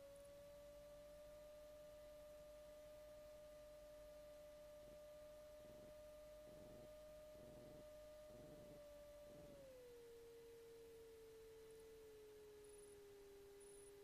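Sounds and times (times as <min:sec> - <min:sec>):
faint electrical whine: 0:00.0 - 0:14.0.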